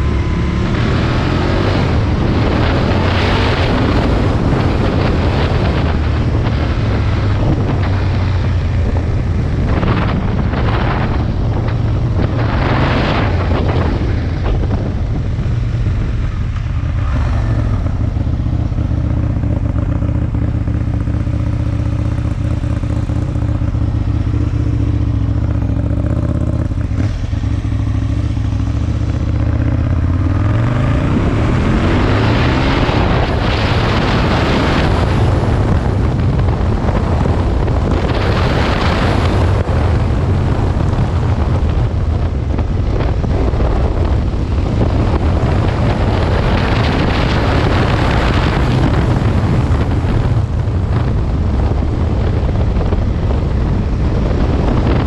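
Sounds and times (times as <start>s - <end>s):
motorcycle engine pulling away: 0.0s - 55.0s
road and wind noise: 0.0s - 55.0s.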